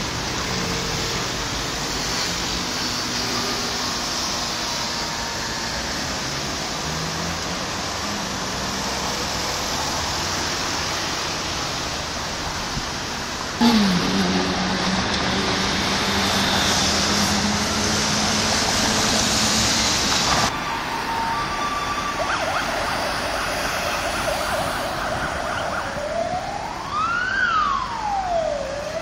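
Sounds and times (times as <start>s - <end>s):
emergency siren wailing: 0.0s - 11.8s, 13.6s - 29.0s
passing cars: 0.0s - 29.0s.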